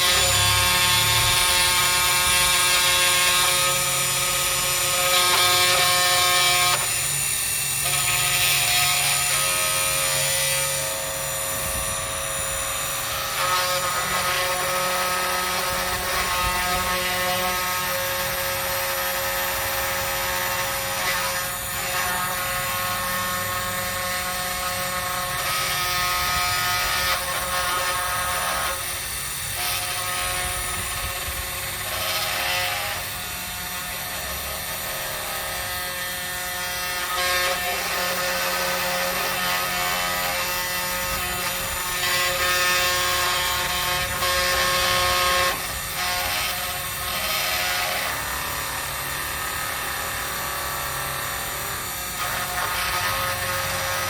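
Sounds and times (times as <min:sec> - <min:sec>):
spindle motor whine: 0:00.0 - 0:54.0.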